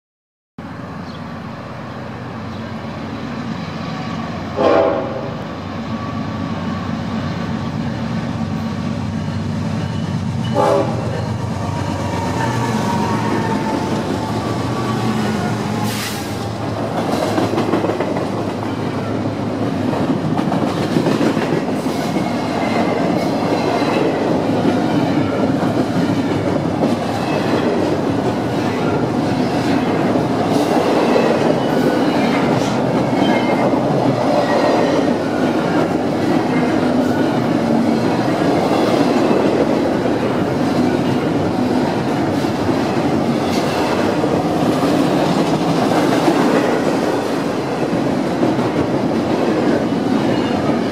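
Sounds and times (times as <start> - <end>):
freight train wheels rumbling: 0.6 - 50.9.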